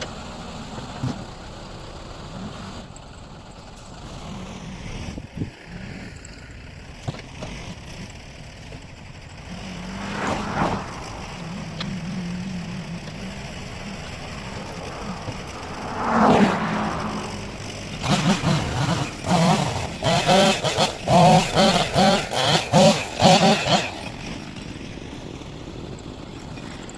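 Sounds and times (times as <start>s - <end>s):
tractor engine revving: 3.2s - 25.4s.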